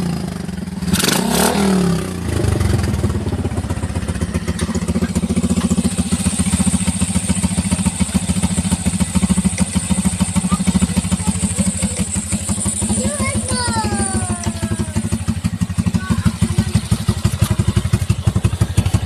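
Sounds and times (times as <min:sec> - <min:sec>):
engine revving: 0:00.0 - 0:19.0
two-stroke engine idling: 0:00.0 - 0:19.0.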